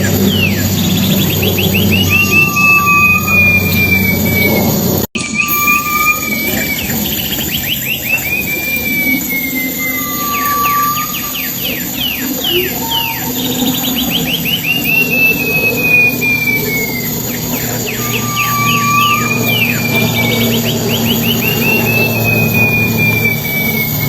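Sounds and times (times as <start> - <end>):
songbird singing whistles: 0.0 - 24.0.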